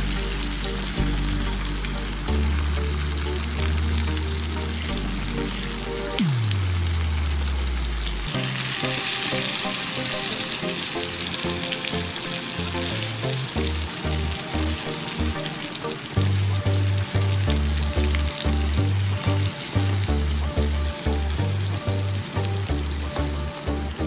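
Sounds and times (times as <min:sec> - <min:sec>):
fish sizzling in oil: 0:00.0 - 0:24.0
music with deep bassline: 0:00.0 - 0:24.0.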